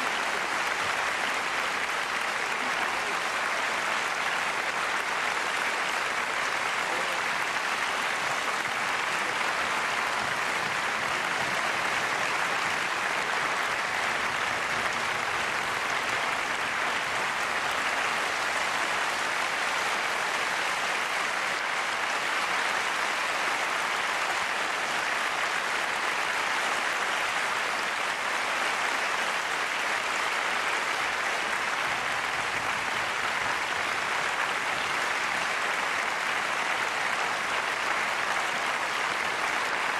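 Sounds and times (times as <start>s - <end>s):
audience applauding: 0.0s - 39.9s.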